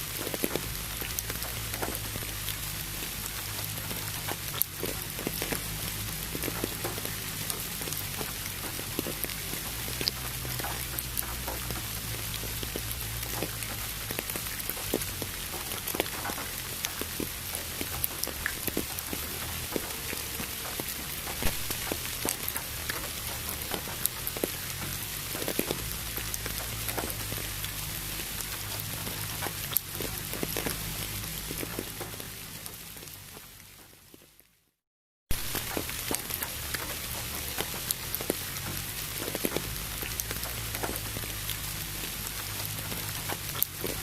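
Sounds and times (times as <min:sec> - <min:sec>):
rain hiss: 0:00.0 - 0:34.2, 0:35.3 - 0:44.0
raindrop ticks: 0:00.0 - 0:34.6, 0:35.3 - 0:44.0.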